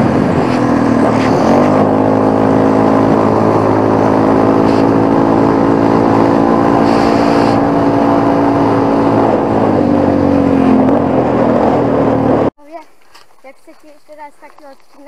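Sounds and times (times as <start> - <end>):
quad bike engine cruising: 0.0 - 12.5.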